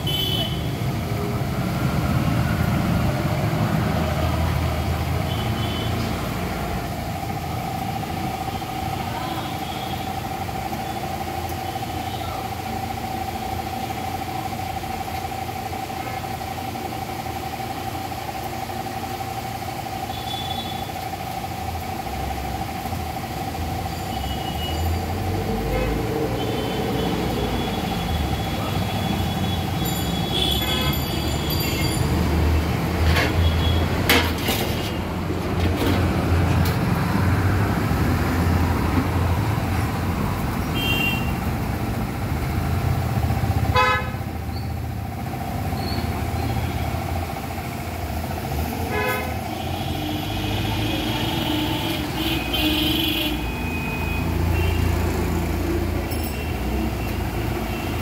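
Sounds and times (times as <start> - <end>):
vehicle engines rumbling: 0.0 - 58.0.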